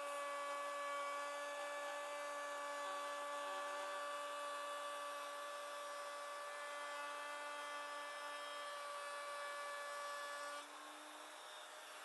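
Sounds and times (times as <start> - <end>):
electric router whining: 0.0 - 12.0.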